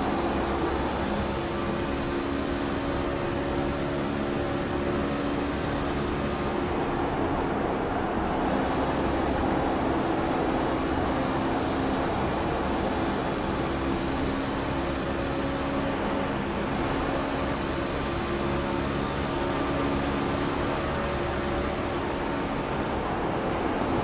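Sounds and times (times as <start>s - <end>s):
truck engines droning: 0.0s - 24.0s.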